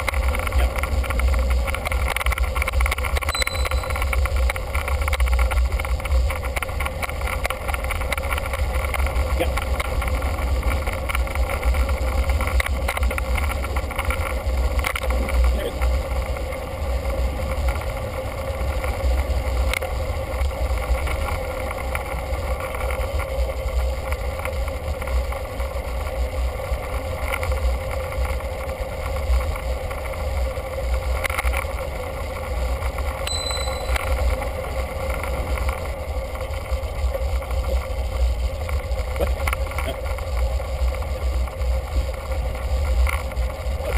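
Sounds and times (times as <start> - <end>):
road noise from moving bike: 0.0 - 43.9.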